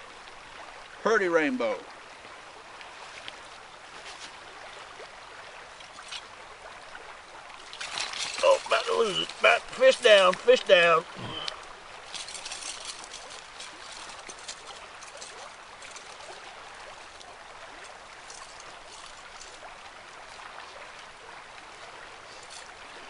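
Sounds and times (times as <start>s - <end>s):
river water rushing over riffle: 0.0s - 23.0s.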